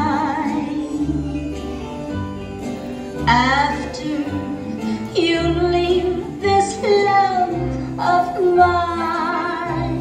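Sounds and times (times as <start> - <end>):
woman singing with vibrato: 0.0 - 1.7, 3.3 - 10.0.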